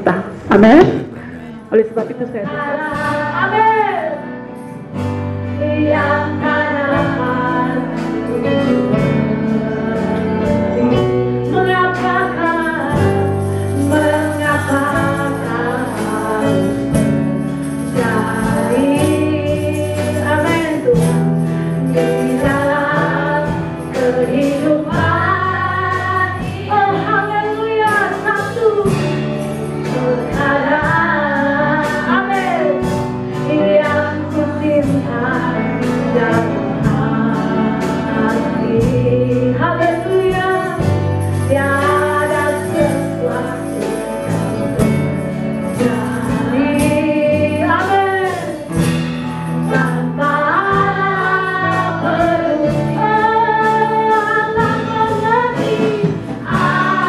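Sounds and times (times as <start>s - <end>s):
bass: 0.0s - 57.0s
keyboard: 0.0s - 57.0s
guitars: 0.4s - 57.0s
drums: 2.4s - 57.0s
tambourines jingling: 4.0s - 6.3s, 7.0s - 33.1s, 39.8s - 57.0s
women singing praise song: 5.6s - 17.1s, 17.8s - 32.9s, 33.5s - 48.6s, 49.7s - 57.0s.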